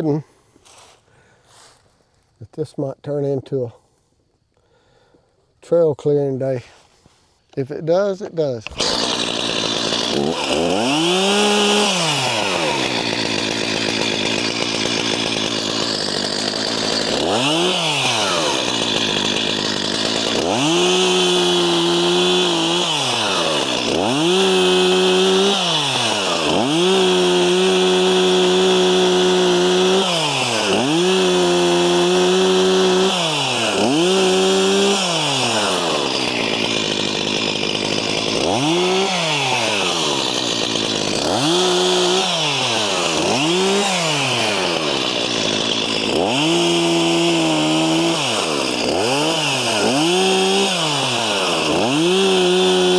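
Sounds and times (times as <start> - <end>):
chainsaw idling and revving: 8.1 - 52.9.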